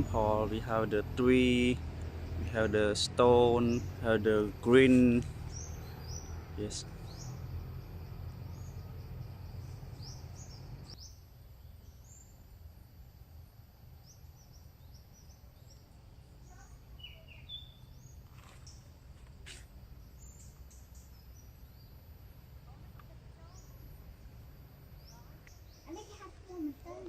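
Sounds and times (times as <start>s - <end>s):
small birds chirping: 0.0s - 12.5s, 14.0s - 27.0s.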